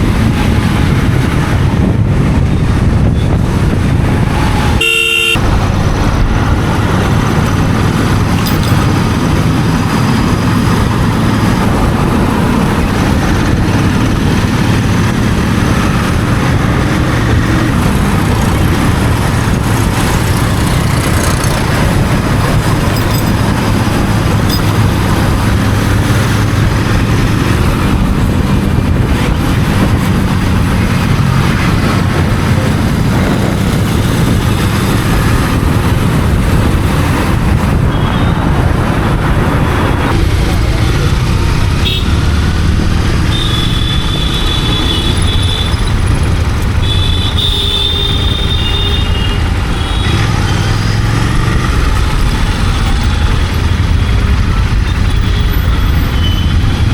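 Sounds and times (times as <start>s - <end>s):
motorcycle engine cruising: 0.0s - 56.9s
wind and road noise: 0.0s - 56.9s.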